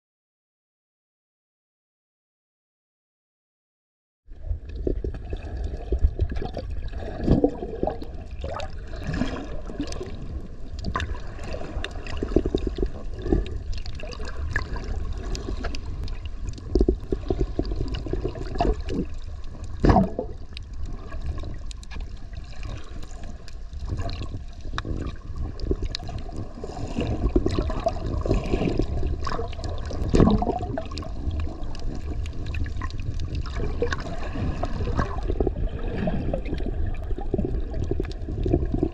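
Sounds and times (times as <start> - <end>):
underwater low rumble: 4.3 - 38.9
water gurgling and sloshing: 4.3 - 38.9.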